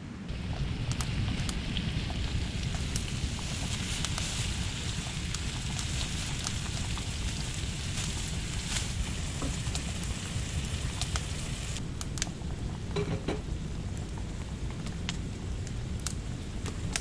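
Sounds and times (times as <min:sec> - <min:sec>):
low steady rumble: 0:00.0 - 0:17.0
meat and vegetables sizzling: 0:00.3 - 0:14.7.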